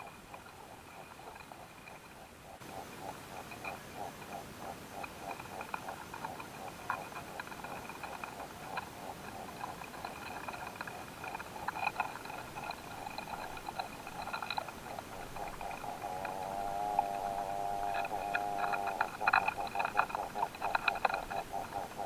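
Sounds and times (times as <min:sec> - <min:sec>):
small clicks and crackles: 0:00.0 - 0:22.0.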